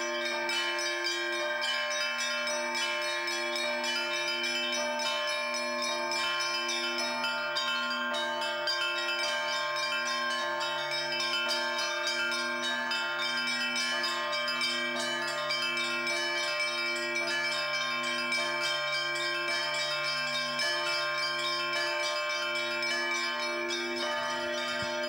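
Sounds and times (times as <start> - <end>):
church bells pealing: 0.0 - 25.0
lower bells ringing: 0.0 - 25.0
small high bells struck rapidly: 0.0 - 25.0.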